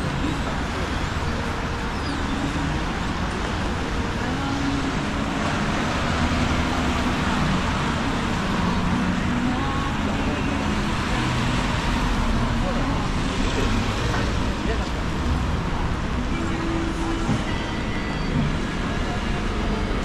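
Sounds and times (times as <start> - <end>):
traffic on wet street: 0.0 - 20.0.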